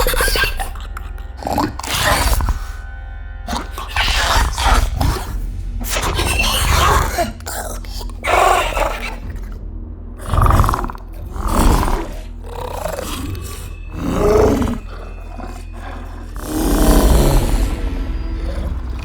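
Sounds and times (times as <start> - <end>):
monster growling roars: 0.0 - 2.8, 3.5 - 9.6, 10.2 - 19.0
low rumble: 0.0 - 19.0.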